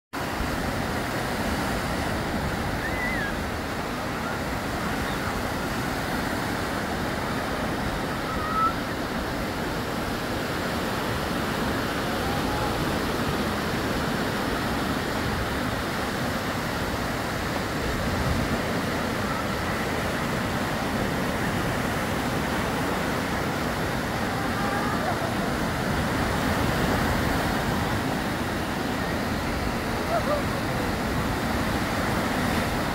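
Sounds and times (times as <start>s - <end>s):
small waves breaking on sand: 0.2s - 32.9s.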